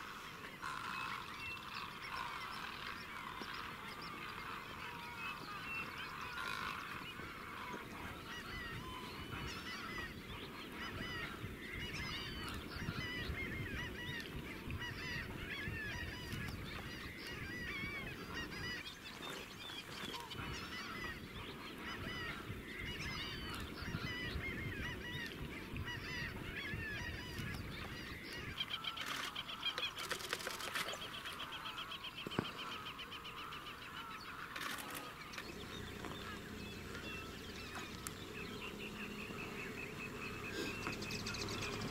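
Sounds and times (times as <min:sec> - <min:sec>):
flock of birds calling: 0:00.0 - 0:41.9.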